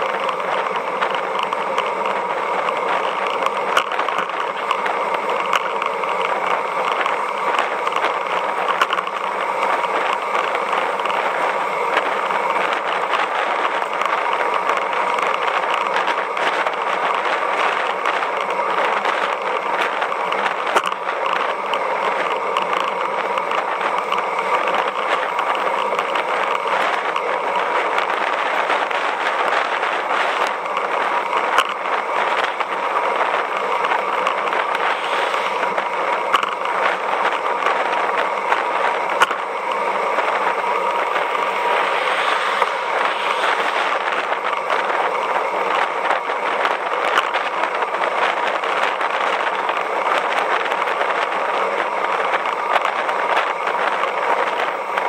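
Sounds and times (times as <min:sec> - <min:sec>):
bike clicks and rattles: 0:00.0 - 0:55.0
wind and road noise: 0:00.0 - 0:55.0.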